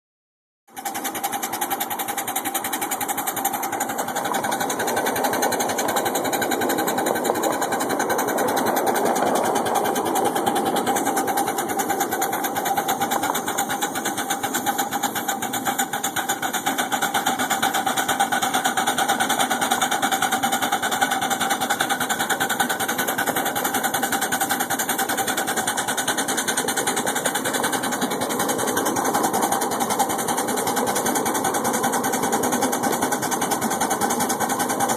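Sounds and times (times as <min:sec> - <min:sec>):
miniature steam train clattering: 0:00.7 - 0:34.9.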